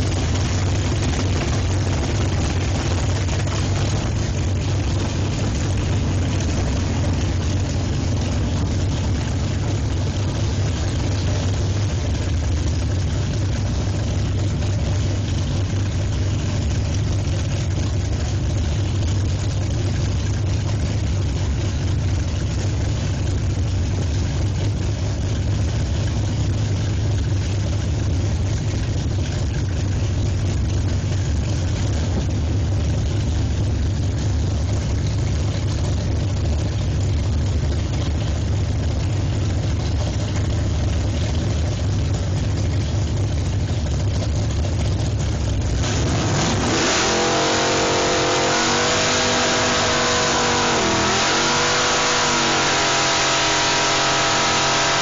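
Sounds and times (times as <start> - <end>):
car engine idling loudly: 0.0 - 55.0.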